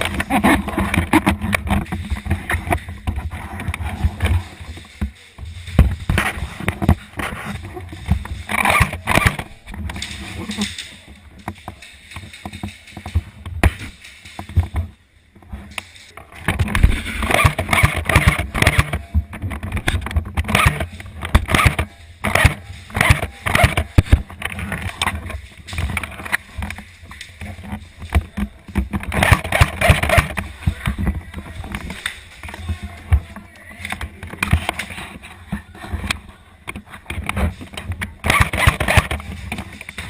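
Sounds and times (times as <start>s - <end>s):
airsoft gun handling rattles: 0.0s - 40.0s.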